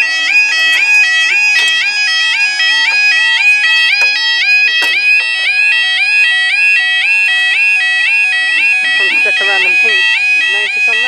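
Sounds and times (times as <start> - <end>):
level crossing alarm warbling: 0.0 - 11.0.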